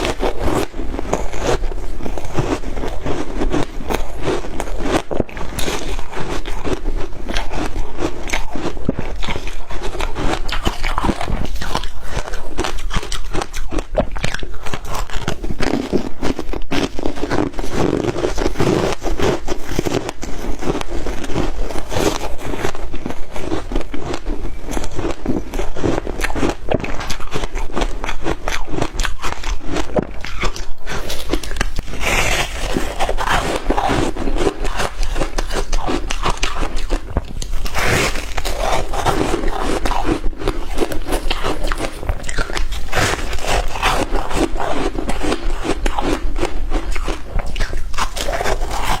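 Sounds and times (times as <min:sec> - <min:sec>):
shaved ice being chewed: 0:00.0 - 0:49.0.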